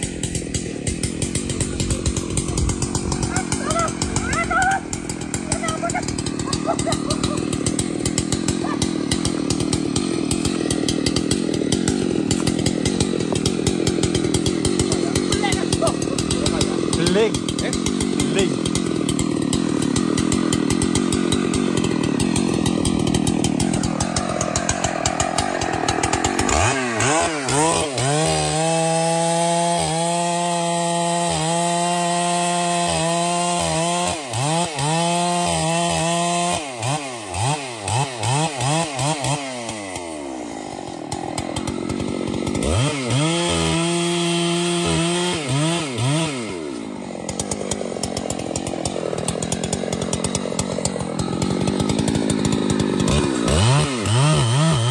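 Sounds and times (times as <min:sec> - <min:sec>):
chainsaw cutting wood: 0:00.0 - 0:54.9
chainsaw revving: 0:00.0 - 0:54.9.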